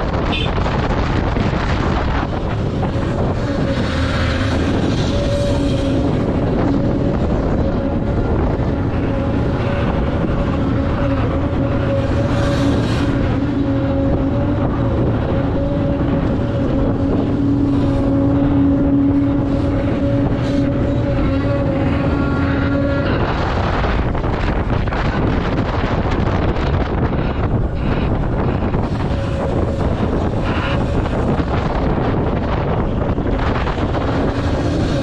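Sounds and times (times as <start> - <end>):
heavy diesel machinery drone: 0.0 - 35.0.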